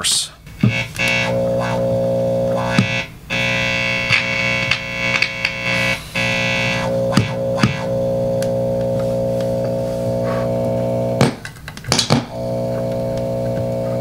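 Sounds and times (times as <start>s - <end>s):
guitar amplifier hum and buzz: 0.4s - 14.0s
electrical crackles: 0.5s - 14.0s.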